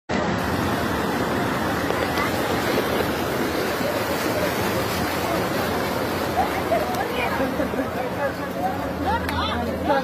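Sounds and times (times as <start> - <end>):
waves breaking on a beach: 0.1 - 10.0.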